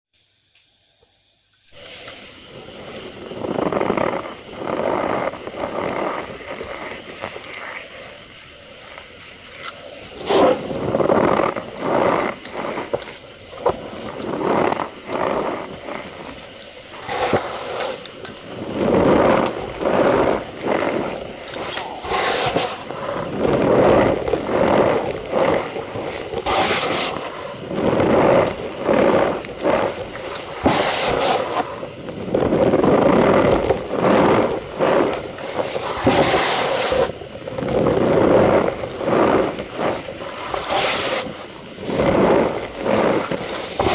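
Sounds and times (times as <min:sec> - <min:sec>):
cornstarch squeaking and crunching: 0:02.5 - 0:43.9.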